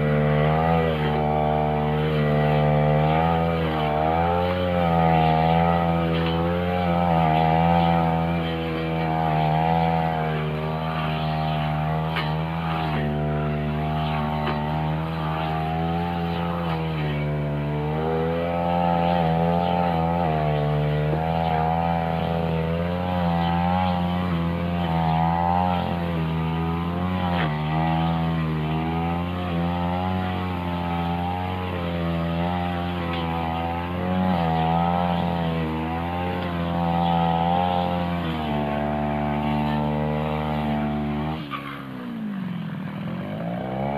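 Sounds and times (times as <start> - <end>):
brush cutter cutting grass: 0.0 - 43.9.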